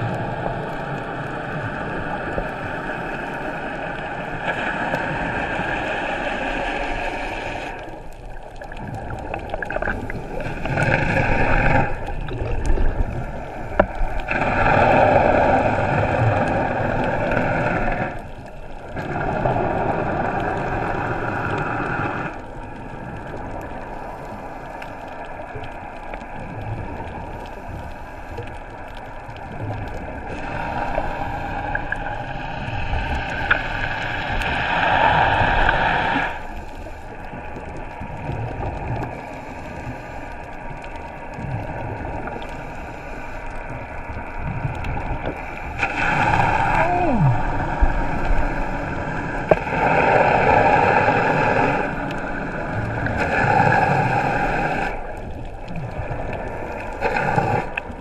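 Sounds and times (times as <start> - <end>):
underwater rushing and gurgling: 0.0 - 58.0.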